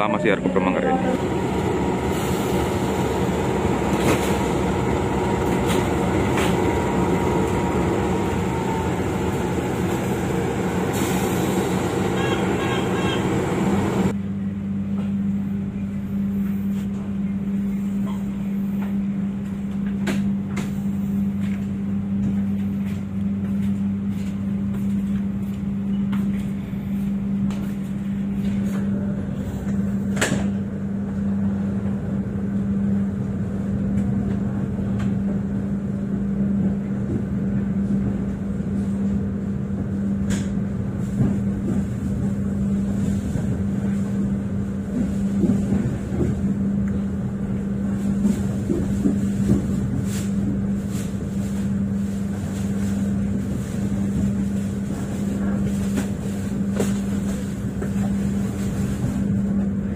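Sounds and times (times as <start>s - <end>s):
train rumbling from inside carriage: 0.0s - 59.9s.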